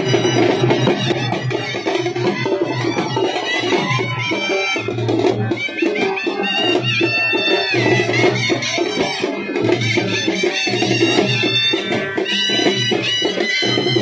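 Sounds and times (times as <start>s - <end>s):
frame drums beating: 0.0s - 14.0s.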